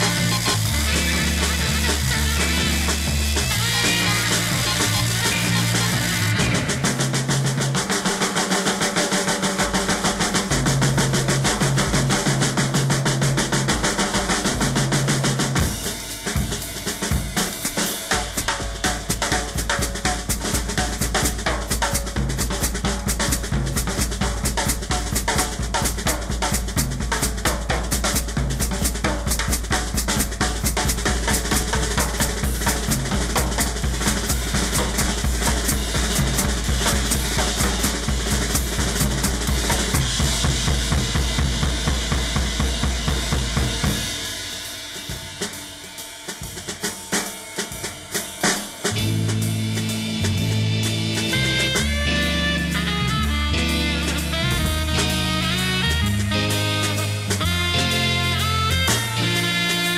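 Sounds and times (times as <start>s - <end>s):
drum kit playing: 0.0s - 59.9s.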